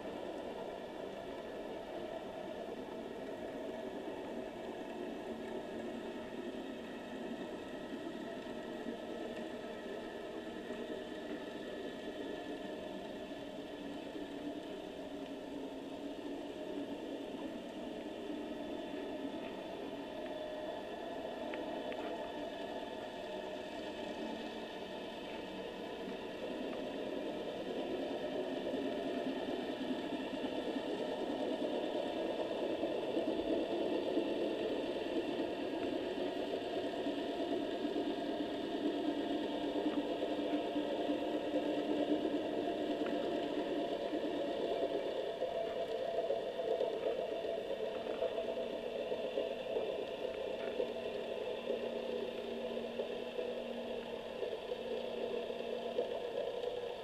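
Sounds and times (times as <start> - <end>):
underwater droning hum: 0.0 - 57.0.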